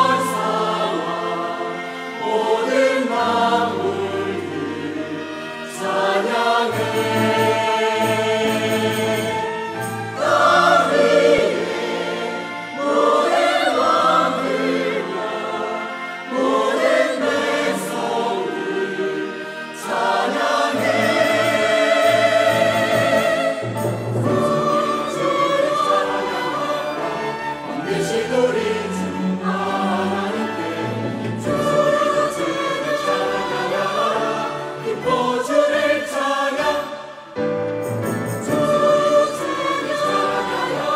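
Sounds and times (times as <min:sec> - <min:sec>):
choir singing a hymn: 0:00.0 - 0:40.9
small orchestra with violins: 0:00.0 - 0:40.9.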